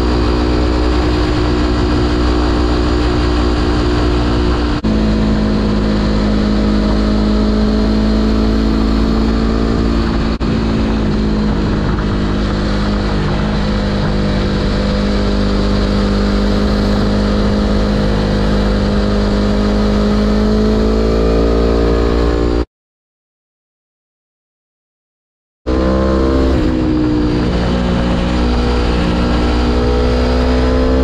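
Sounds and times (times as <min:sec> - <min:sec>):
wind rumble on microphone: 0:00.0 - 0:22.6, 0:25.7 - 0:31.0
motorcycle engine: 0:00.0 - 0:22.7, 0:25.7 - 0:31.0.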